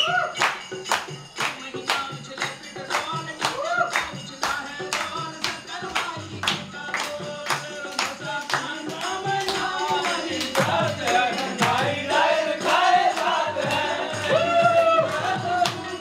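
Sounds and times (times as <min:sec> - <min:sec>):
hand claps: 0:00.0 - 0:16.0
men singing together: 0:01.4 - 0:16.0.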